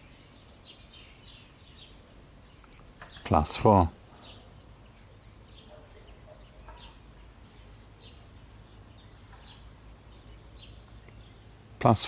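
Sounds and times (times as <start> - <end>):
low steady background rumble: 0.0 - 12.0
small birds chirping: 0.0 - 12.0.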